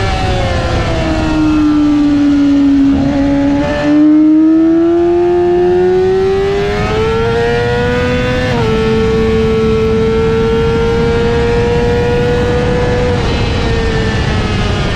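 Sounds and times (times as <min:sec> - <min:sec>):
motorcycle engine accelerating: 0:00.0 - 0:14.9
wind noise: 0:00.0 - 0:14.9.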